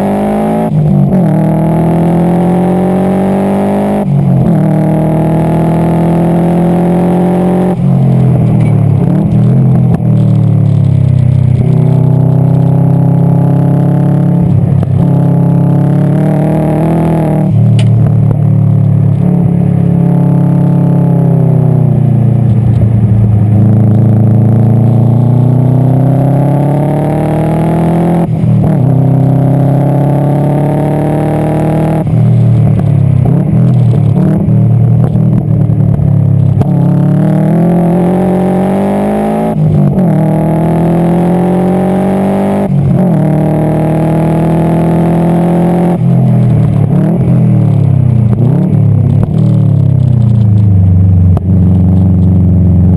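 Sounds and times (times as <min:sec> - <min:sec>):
car engine accelerating hard: 0:00.0 - 0:52.9.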